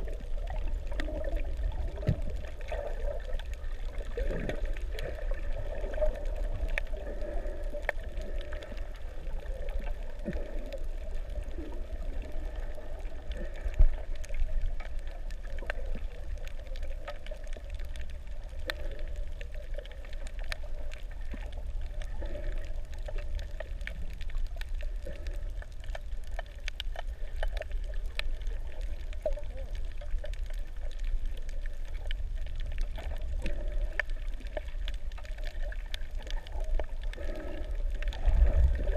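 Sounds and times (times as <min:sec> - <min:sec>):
clicks and crackles: 0:00.0 - 0:38.9
muffled underwater rumble: 0:00.0 - 0:38.9.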